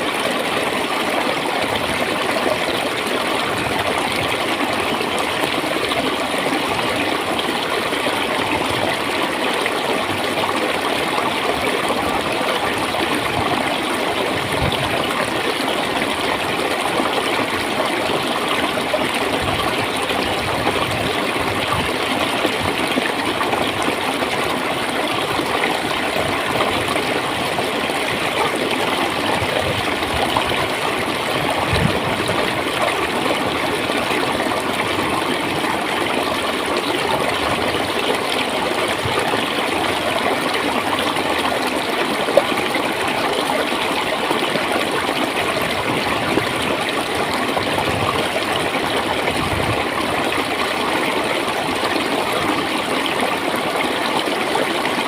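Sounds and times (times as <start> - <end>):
water flowing and gurgling: 0.0 - 55.0.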